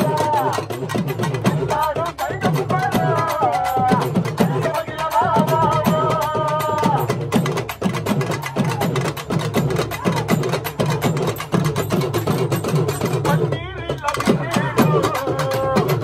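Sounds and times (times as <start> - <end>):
fast loud barrel drumming: 0.0 - 16.0.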